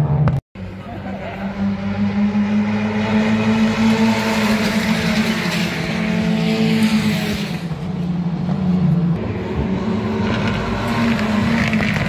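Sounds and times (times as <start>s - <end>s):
race car engines running hard: 0.2s - 12.0s.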